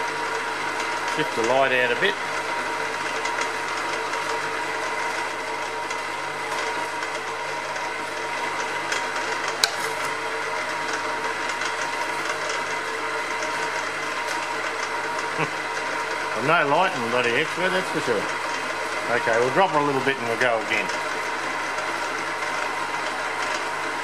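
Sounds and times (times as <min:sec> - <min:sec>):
milling machine humming: 0:00.0 - 0:24.0.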